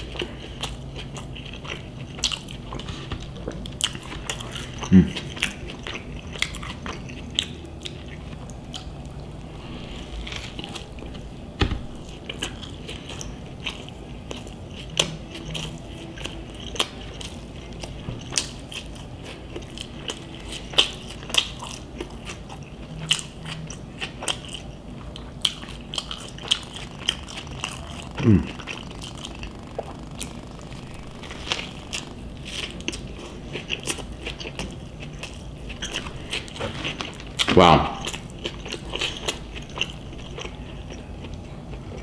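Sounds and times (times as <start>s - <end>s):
chewing with wet mouth clicks: 0.0s - 9.4s, 12.0s - 42.0s.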